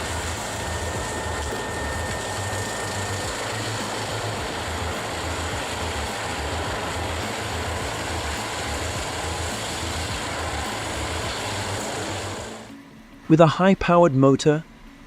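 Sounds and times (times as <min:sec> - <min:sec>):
wood chipper running: 0:00.0 - 0:12.7.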